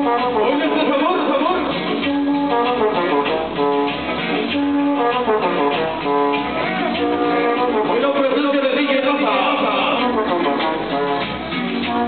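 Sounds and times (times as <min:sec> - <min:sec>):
cumbia with horns and guitar: 0:00.0 - 0:12.0.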